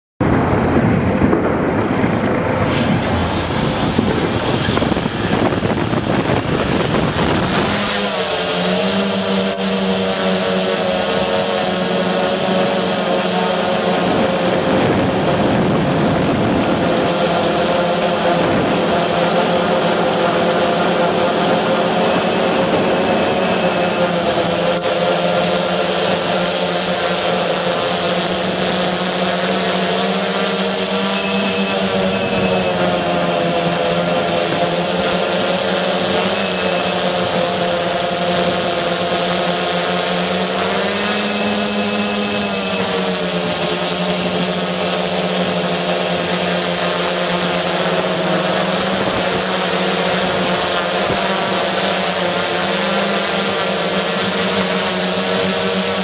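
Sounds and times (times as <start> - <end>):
toy helicopter motors whining: 1.3 - 56.0.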